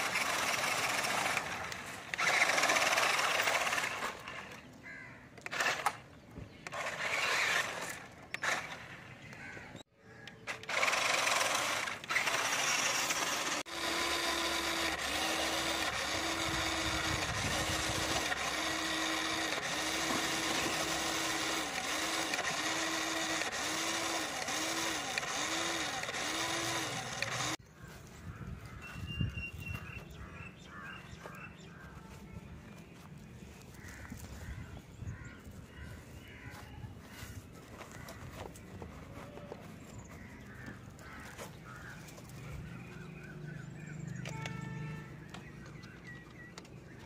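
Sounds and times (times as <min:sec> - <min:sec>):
electric motors whining: 0:00.0 - 0:47.0.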